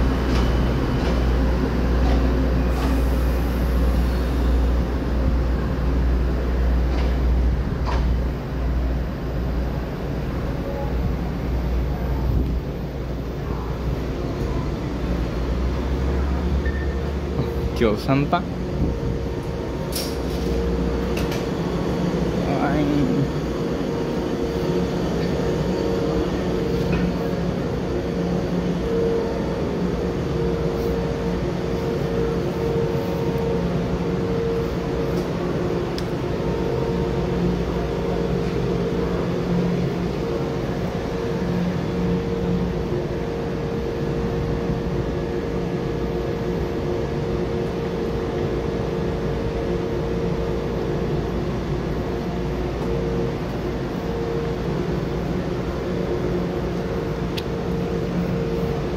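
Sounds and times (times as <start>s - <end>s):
train equipment hum: 0.0s - 58.9s.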